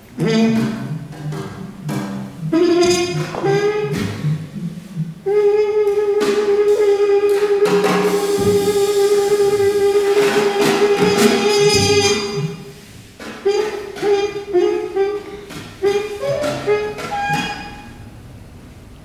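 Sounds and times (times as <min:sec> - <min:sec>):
trumpet playing: 0:00.0 - 0:18.2
drum and cymbal strokes: 0:00.2 - 0:17.8.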